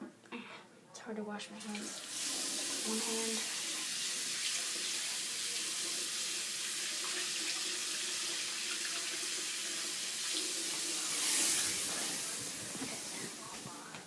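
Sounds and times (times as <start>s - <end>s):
tap water splashing into sink: 1.7s - 13.1s.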